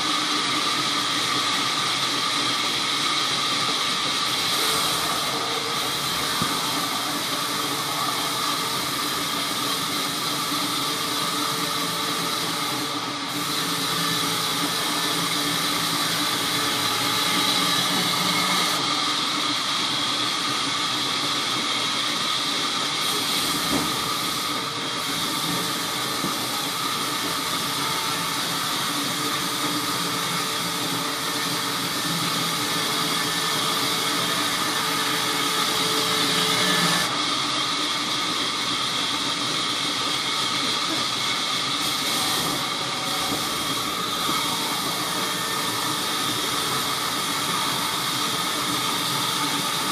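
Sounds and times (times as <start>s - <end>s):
band saw cutting timber: 0.0s - 49.9s.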